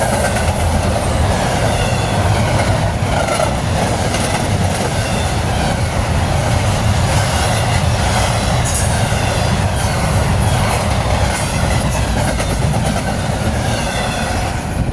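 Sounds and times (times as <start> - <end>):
freight train cars rumbling: 0.0 - 14.9.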